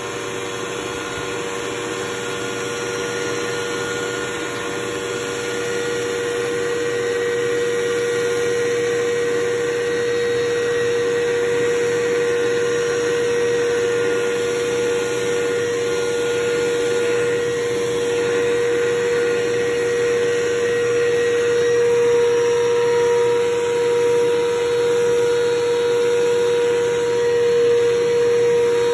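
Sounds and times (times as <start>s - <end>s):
vacuum cleaner running: 0.0s - 28.9s.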